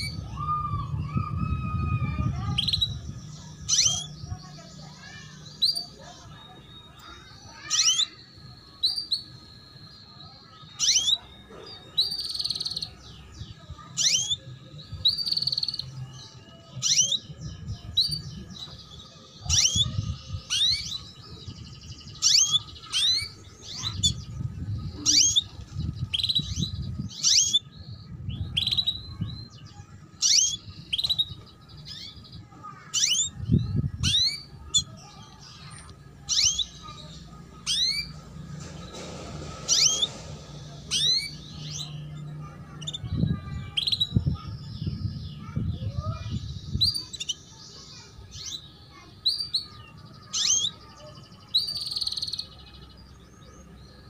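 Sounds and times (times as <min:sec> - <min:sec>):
canary chirping: 0:00.0 - 0:54.0.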